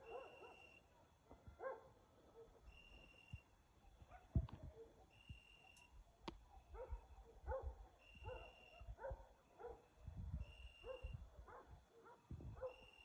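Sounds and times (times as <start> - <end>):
dog barking faintly: 0.0 - 2.7, 3.9 - 5.8, 6.4 - 13.0.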